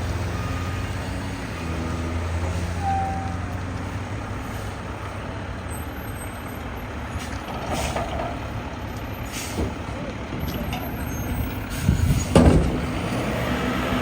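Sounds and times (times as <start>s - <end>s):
garbage truck diesel engine: 0.0s - 14.0s.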